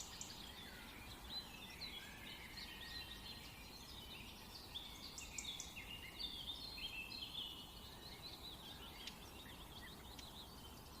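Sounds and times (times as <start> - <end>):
faint outdoor hiss: 0.0 - 11.0
songbirds chirping and singing: 0.0 - 11.0.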